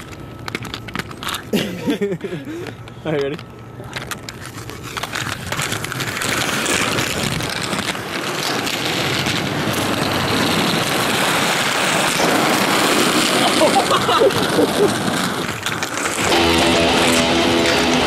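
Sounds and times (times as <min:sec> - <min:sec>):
inline skate wheels rolling on concrete: 0:00.0 - 0:18.0.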